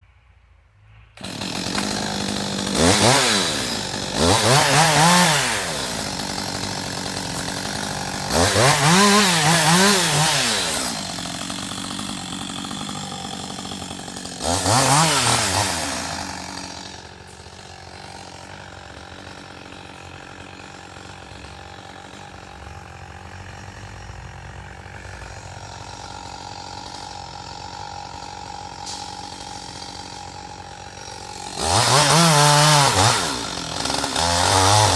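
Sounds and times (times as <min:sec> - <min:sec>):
chainsaw cutting log: 0:01.2 - 0:34.9.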